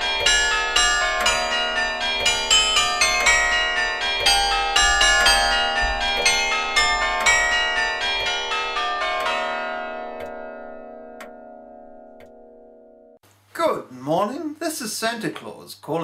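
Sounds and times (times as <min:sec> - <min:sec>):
bells chiming: 0:00.0 - 0:13.2.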